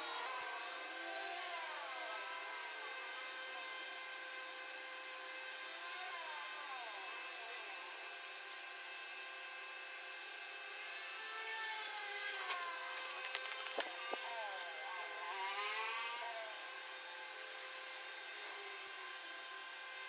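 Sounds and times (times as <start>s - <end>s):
electric motor whining: 0.0s - 8.9s, 10.6s - 20.0s.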